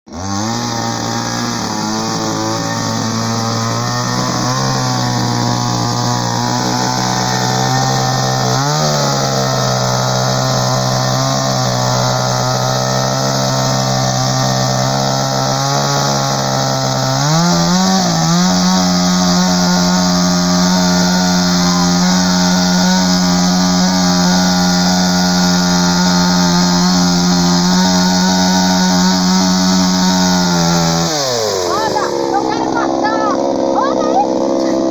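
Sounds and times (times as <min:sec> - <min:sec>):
chainsaw engine running: 0:00.1 - 0:34.9.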